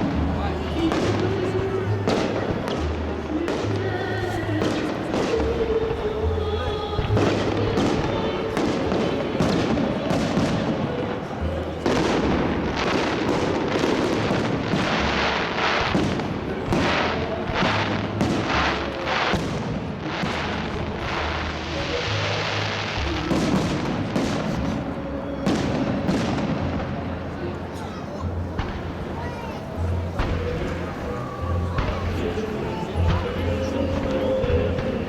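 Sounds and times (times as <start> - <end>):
fireworks bangs and booms: 0.0 - 6.1, 6.9 - 35.0.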